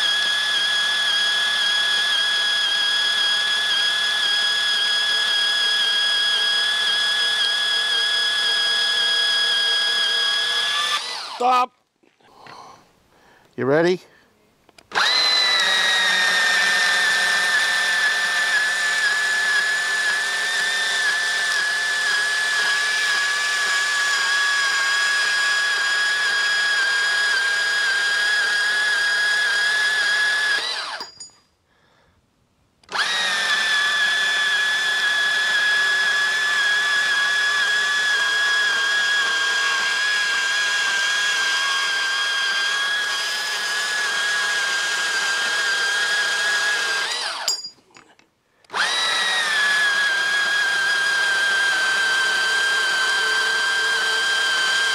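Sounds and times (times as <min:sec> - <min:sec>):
bandsaw cutting steel: 0:00.0 - 0:11.7, 0:14.9 - 0:31.3, 0:32.8 - 0:47.7, 0:48.7 - 0:54.9.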